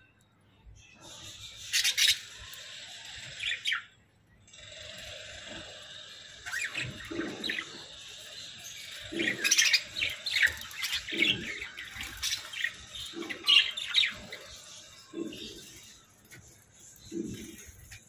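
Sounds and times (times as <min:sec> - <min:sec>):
budgerigars chirping and chattering: 0:01.0 - 0:04.0, 0:04.6 - 0:18.0.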